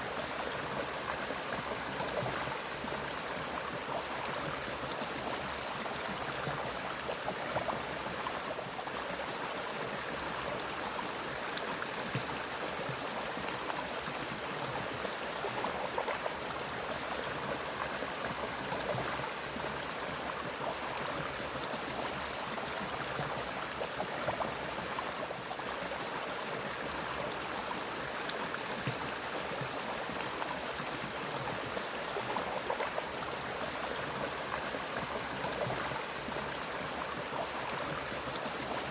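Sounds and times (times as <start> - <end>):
stream rushing and gurgling: 0.0 - 38.9.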